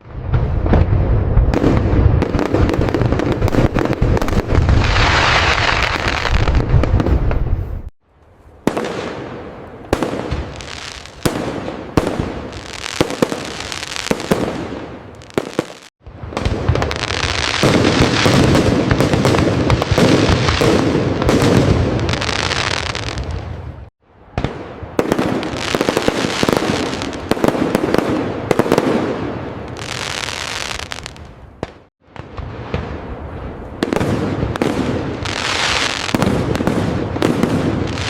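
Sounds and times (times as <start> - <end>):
fireworks crackling and popping: 0.0 - 38.0
heavy firework bursts: 0.3 - 7.9, 8.7 - 23.9, 24.5 - 33.0, 33.8 - 38.0.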